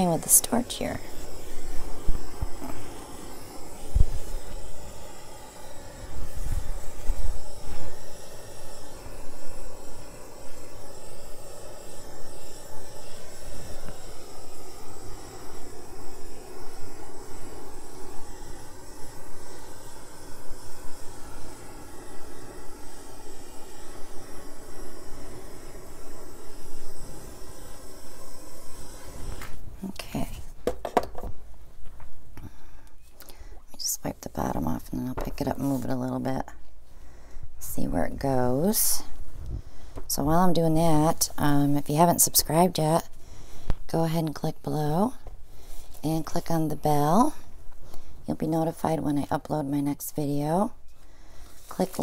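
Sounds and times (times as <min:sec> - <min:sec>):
torch flame hissing: 0:00.0 - 0:52.0.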